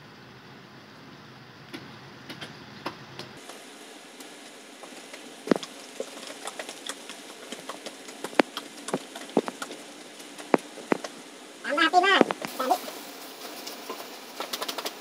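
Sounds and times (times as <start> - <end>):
wood fire crackling: 0.6 - 15.0.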